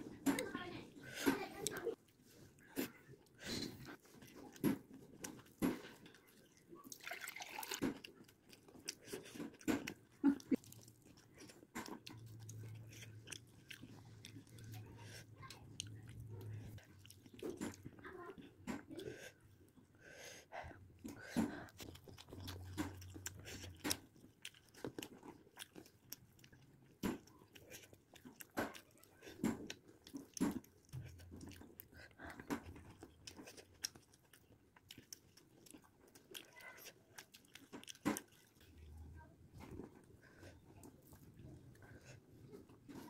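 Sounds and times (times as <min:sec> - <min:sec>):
chewing: 0:00.0 - 0:43.0.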